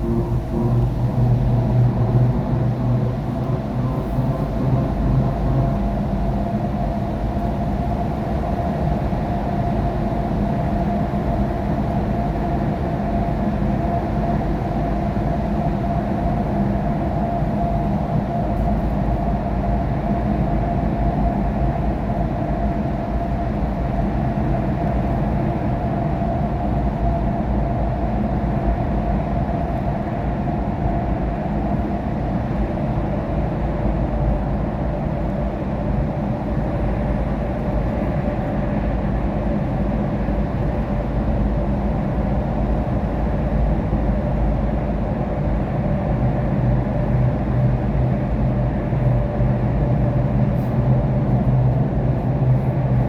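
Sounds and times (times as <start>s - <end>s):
low engine hum: 0.0s - 53.0s.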